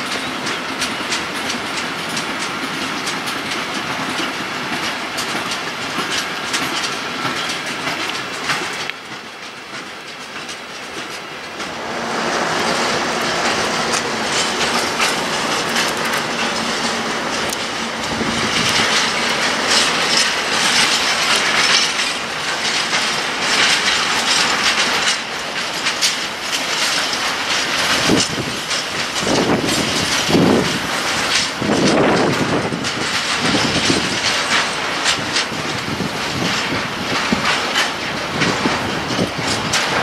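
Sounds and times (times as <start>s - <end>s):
train wheels clattering over rail joints: 0.0s - 40.0s.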